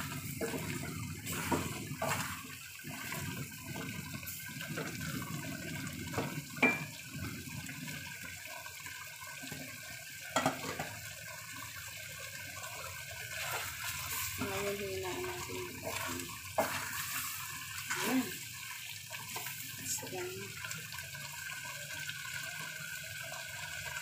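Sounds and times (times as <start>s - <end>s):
sauce bubbling in a pot: 0.0s - 24.0s.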